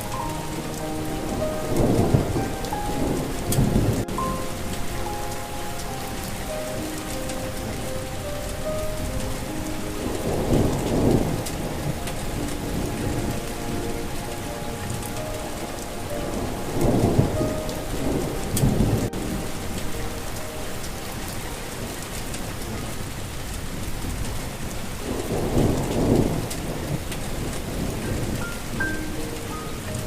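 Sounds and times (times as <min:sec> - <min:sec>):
rolling thunder: 0:00.0 - 0:30.0
steady rain falling: 0:00.0 - 0:30.0.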